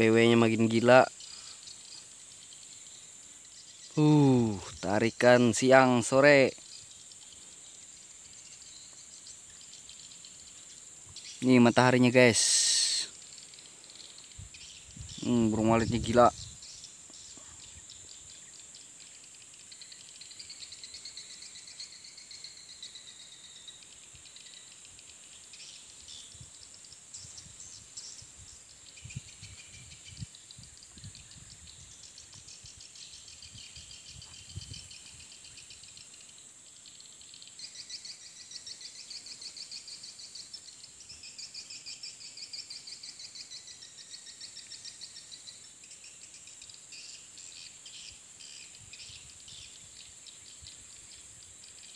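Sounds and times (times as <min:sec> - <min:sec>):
insect drone: 0:00.0 - 0:51.9.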